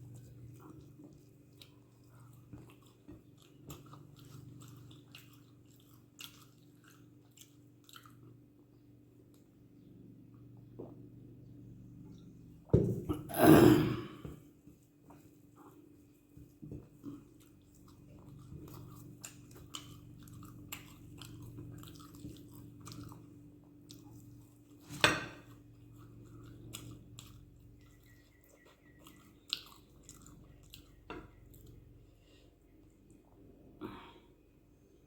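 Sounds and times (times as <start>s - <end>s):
person chewing food: 0.0s - 11.3s, 15.1s - 34.9s.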